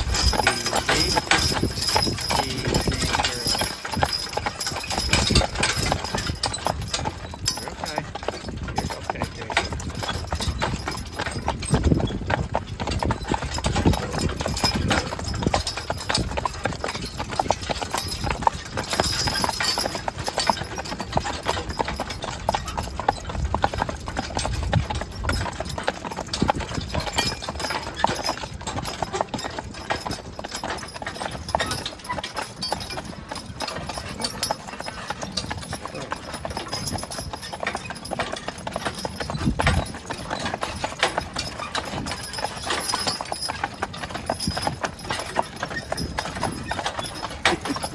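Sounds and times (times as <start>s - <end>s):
horse hooves clip-clopping: 0.0s - 47.9s.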